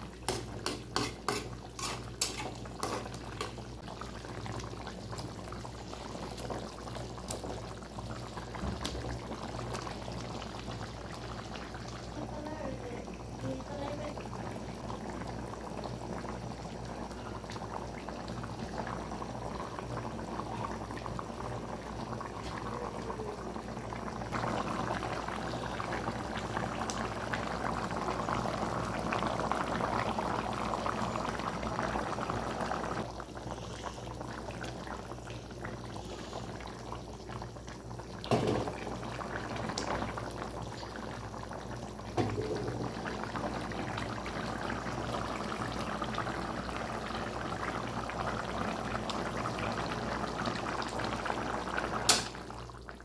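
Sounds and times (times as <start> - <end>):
curry bubbling in a pan: 0.0 - 53.0.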